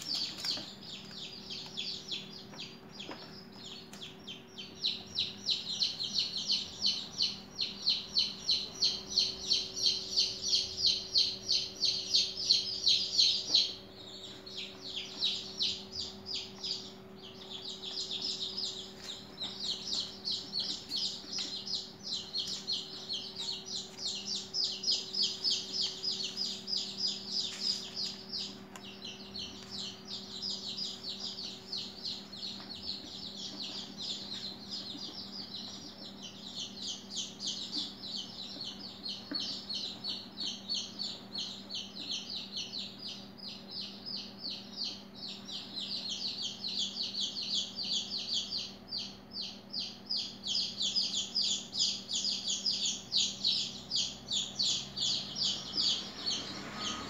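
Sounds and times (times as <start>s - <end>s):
steady low hum: 0.0s - 56.8s
high-pitched bird chirping: 0.0s - 57.0s.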